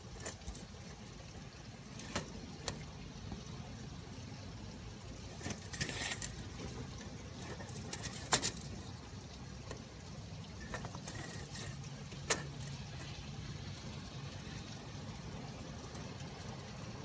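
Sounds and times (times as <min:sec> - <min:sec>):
rain drips ticking: 0:00.0 - 0:17.0
steady low background noise: 0:00.0 - 0:17.0.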